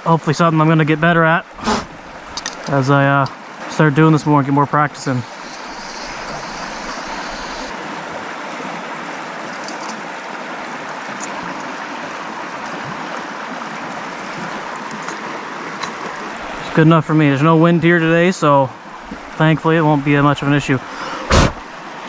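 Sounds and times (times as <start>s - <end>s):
river water rushing: 0.5s - 22.0s.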